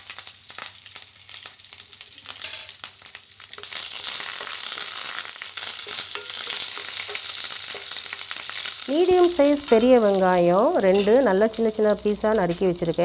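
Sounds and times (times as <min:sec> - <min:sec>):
oil sizzling: 0:00.0 - 0:13.0
seeds popping in hot oil: 0:00.0 - 0:13.0.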